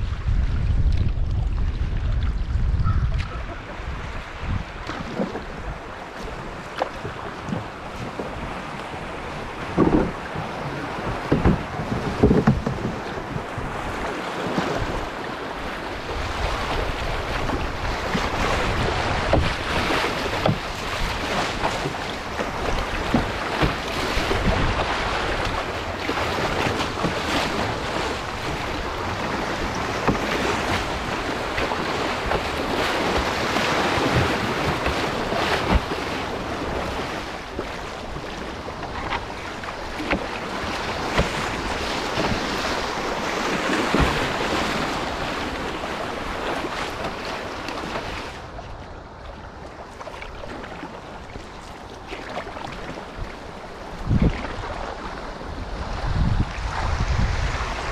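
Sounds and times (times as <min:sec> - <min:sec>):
wind on microphone: 0:00.0 - 0:49.6, 0:52.6 - 0:57.9
river water rushing and splashing: 0:03.2 - 0:57.9.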